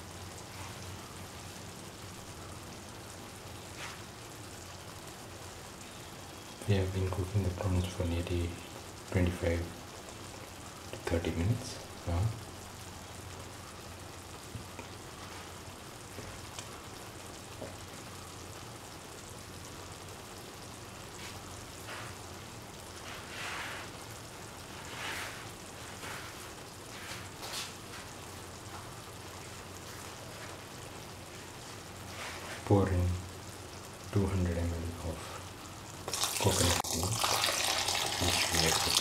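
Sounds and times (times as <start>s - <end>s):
curry sizzling in a pan: 0.0s - 39.0s.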